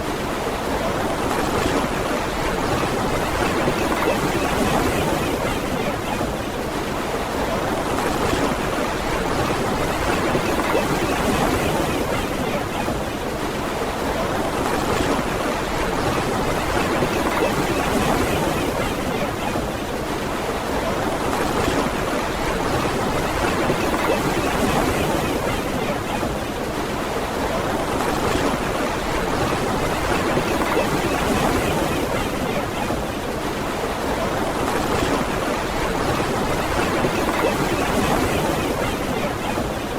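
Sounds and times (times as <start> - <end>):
ocean waves washing on beach: 0.0 - 39.9.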